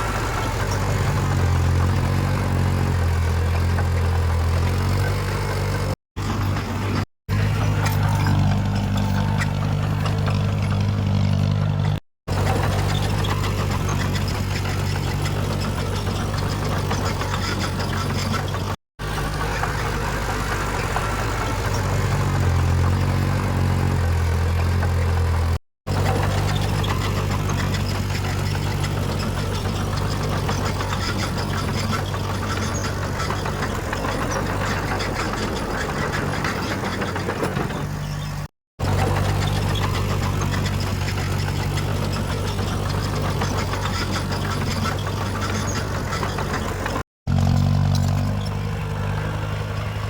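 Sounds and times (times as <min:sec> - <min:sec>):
heavy diesel engine drone: 0:00.0 - 0:50.0
machinery clatter: 0:00.0 - 0:50.0.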